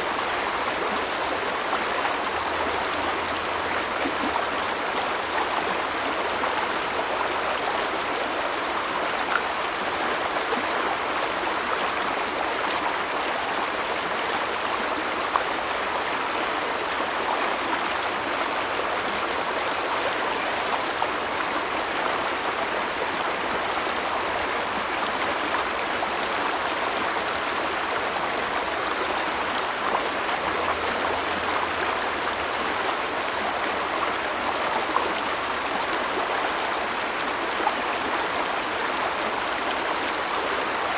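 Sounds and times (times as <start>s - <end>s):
stream of water flowing: 0.0s - 40.9s.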